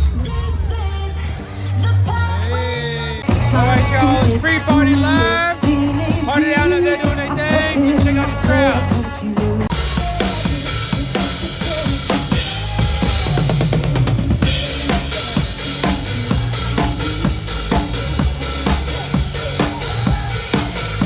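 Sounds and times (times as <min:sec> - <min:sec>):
music with drum kit beat: 0:03.2 - 0:21.0.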